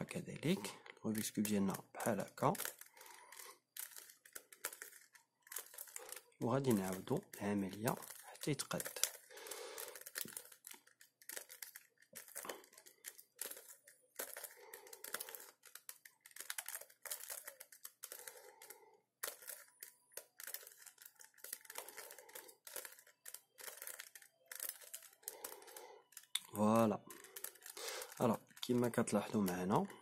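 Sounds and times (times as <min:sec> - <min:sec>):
puzzle cube layers clicking: 0:00.0 - 0:30.0.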